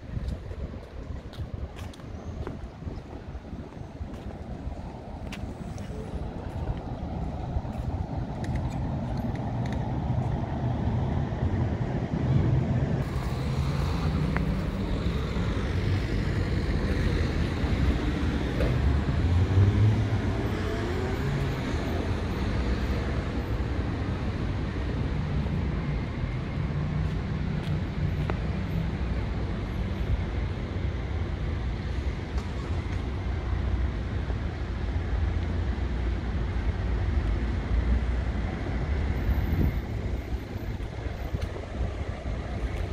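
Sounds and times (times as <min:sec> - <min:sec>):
cars passing on street: 0:00.0 - 0:42.9.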